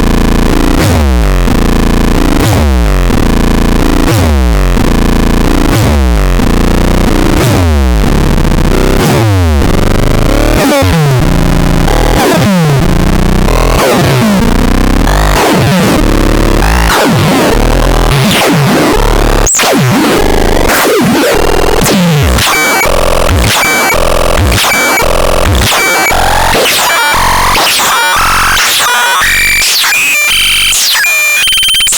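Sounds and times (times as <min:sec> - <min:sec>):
distorted synthesizer pitch sweeps: 0:00.0 - 0:31.9.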